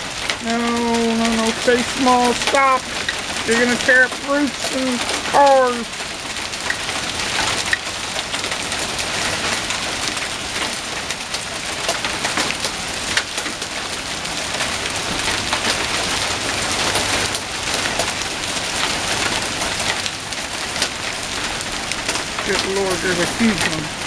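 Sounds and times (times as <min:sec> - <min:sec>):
hailstones striking: 0:00.0 - 0:24.0
rain hiss: 0:00.0 - 0:24.0.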